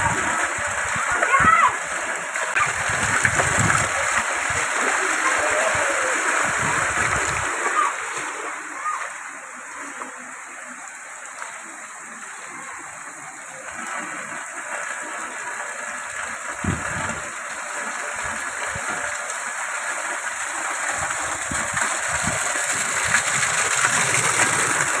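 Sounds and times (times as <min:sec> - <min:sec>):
heavy rain on concrete: 0:00.0 - 0:25.0.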